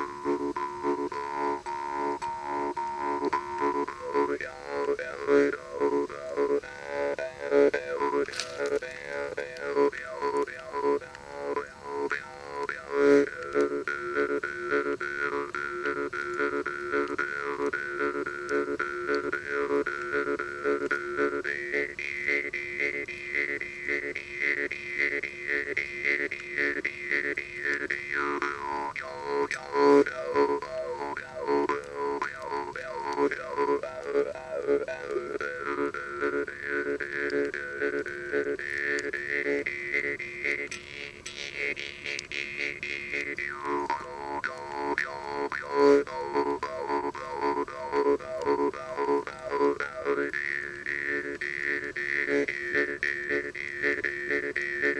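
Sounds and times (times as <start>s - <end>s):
jaw harp plucking: 0.0s - 54.9s.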